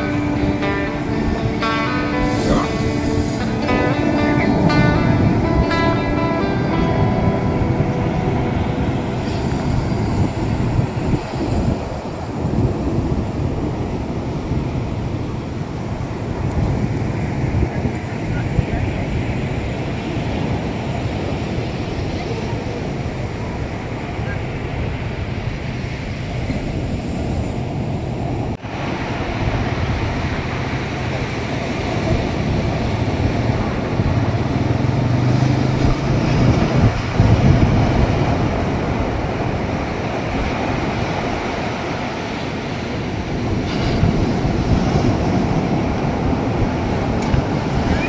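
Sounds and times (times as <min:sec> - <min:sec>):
surf breaking on beach: 0:00.0 - 0:48.0.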